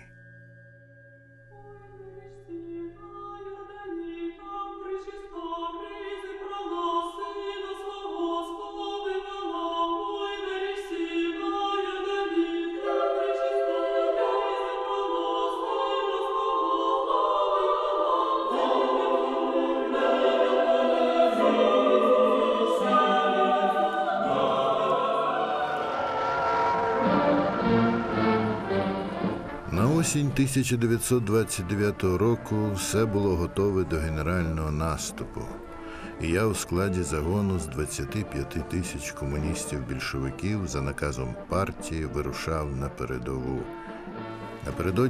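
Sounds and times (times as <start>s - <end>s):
choir singing slow chords: 1.5s - 42.1s.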